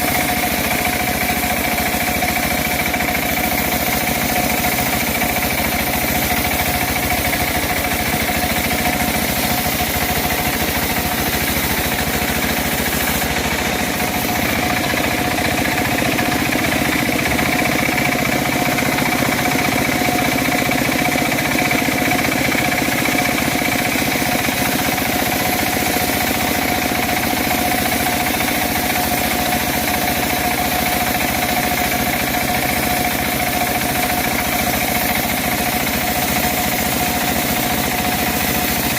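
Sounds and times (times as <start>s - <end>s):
sawmill engine droning: 0.0s - 38.9s.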